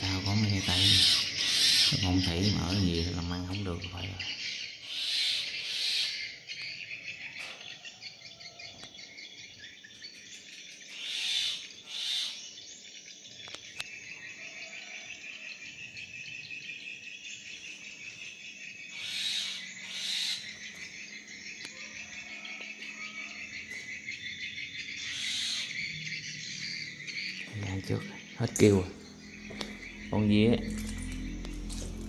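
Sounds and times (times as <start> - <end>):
insects chorus: 0.0 - 32.0.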